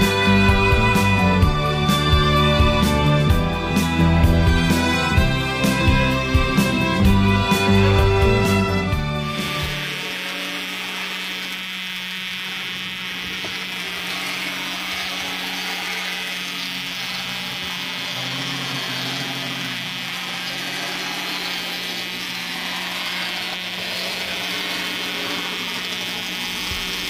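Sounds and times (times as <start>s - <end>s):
electric motor whine: 0.0s - 27.0s.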